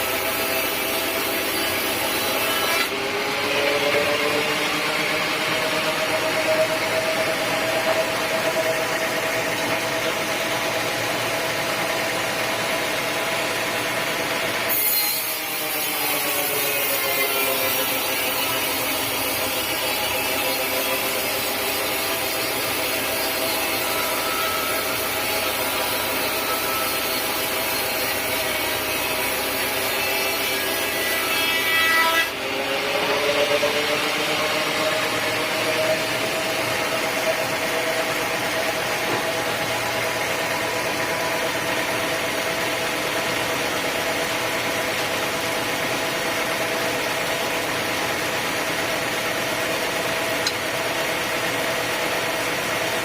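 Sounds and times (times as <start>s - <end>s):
sawmill saw cutting wood: 0.0s - 53.0s.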